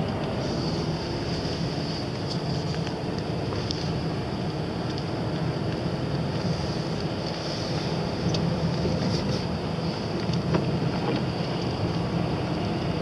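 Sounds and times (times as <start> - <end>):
engine and tyre drone: 0.0 - 13.0
tyres hissing on wet road: 0.0 - 13.0.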